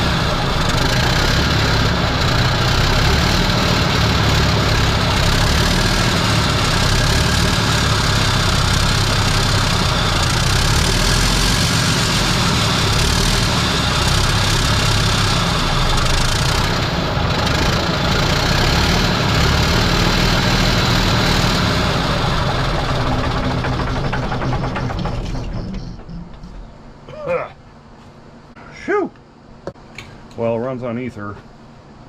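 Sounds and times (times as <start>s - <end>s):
diesel engine running rough: 0.0s - 27.4s.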